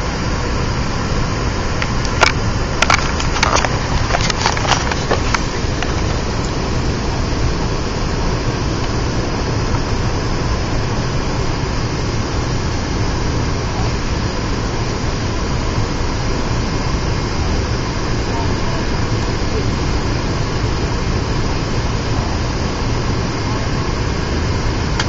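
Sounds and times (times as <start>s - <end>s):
airliner cabin engine noise: 0.0s - 25.0s.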